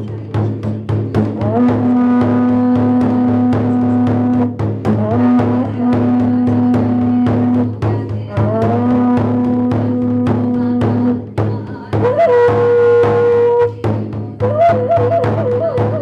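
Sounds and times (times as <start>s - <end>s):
drum beaten steadily: 0.0s - 16.0s.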